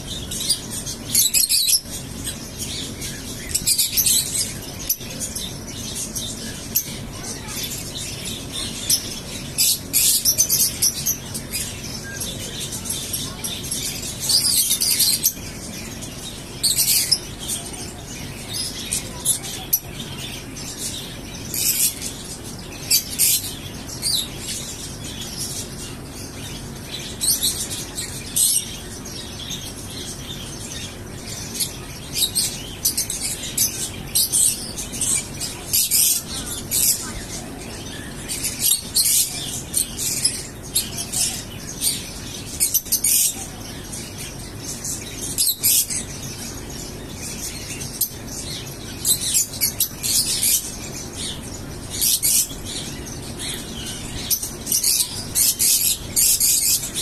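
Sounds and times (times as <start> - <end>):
birds chirping shrilly: 0.0 - 57.0
low background hum: 0.0 - 57.0.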